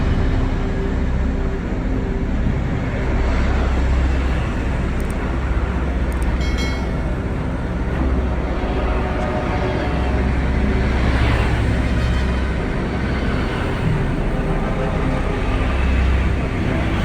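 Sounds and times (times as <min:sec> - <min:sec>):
noisy wash: 0:00.0 - 0:17.0.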